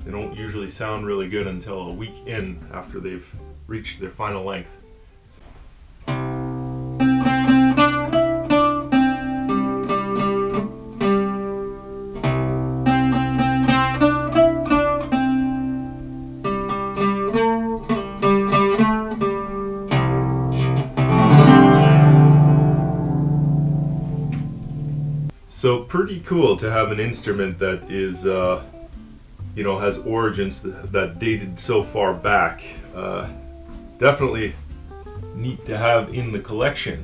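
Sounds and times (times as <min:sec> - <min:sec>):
oud plucked notes: 0:00.0 - 0:37.0.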